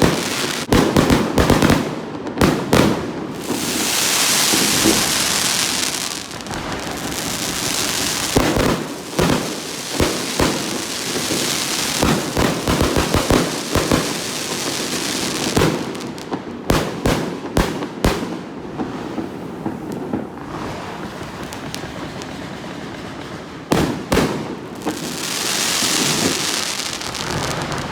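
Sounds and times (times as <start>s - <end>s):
fireworks bangs: 0.0s - 27.9s
fireworks crackling hiss: 0.0s - 27.9s.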